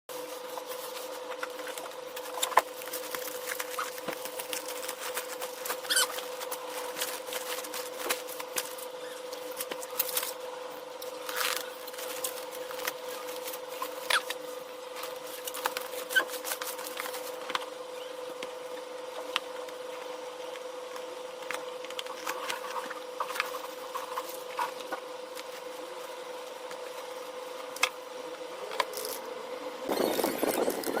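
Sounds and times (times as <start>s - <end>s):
steady hum: 0.1s - 31.0s.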